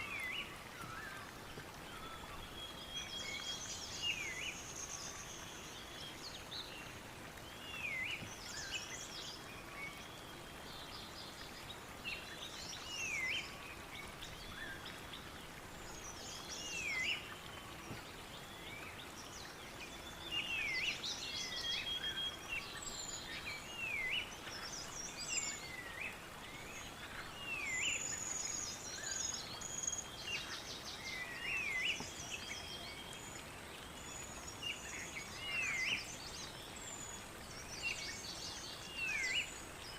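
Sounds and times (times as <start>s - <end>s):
birds singing and calling: 0.0s - 39.9s
steady background hiss: 0.0s - 39.9s.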